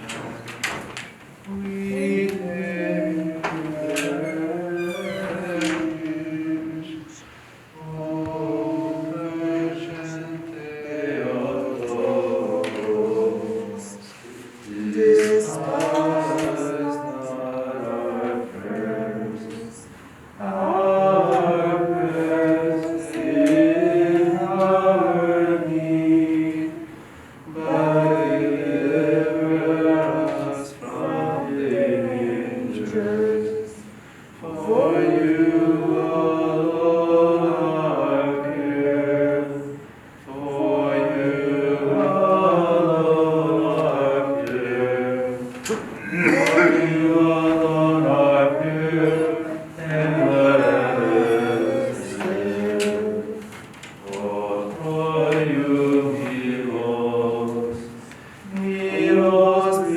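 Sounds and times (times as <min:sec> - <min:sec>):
voices chanting a hymn: 0:00.0 - 0:59.9.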